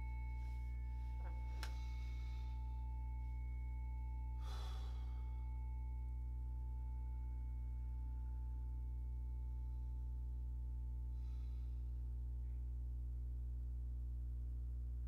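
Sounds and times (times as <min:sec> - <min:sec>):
faint high ringing tone: 0:00.0 - 0:15.0
low electrical hum: 0:00.0 - 0:15.0.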